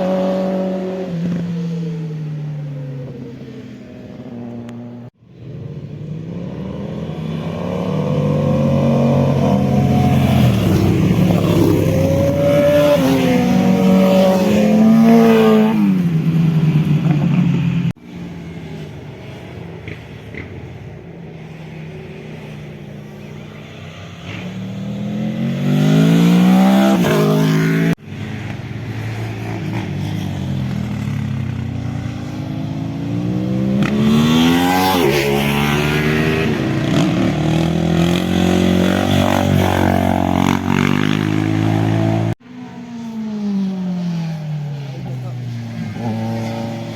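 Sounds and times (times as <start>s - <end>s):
motorcycles revving past: 0.0s - 46.9s.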